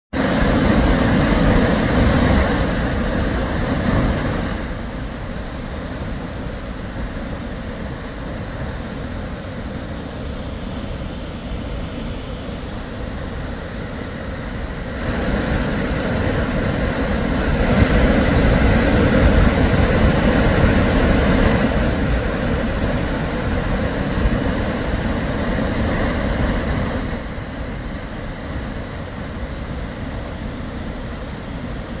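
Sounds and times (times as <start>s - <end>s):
waterfall rushing: 0.2s - 32.0s.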